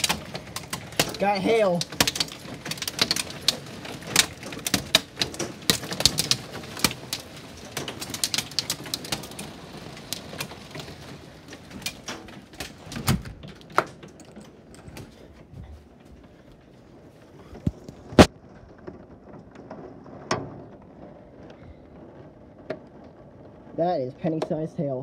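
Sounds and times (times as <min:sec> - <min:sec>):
hail striking a wooden deck: 0:00.0 - 0:25.0.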